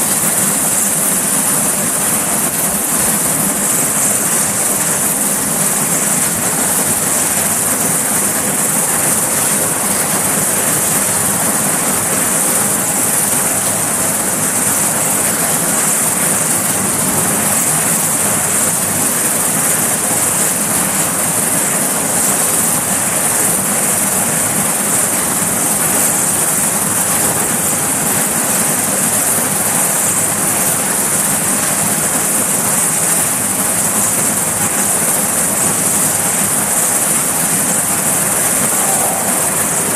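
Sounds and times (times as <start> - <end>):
helicopter rotor rushing: 0.0 - 39.9
helicopter turbine hiss: 0.0 - 39.9.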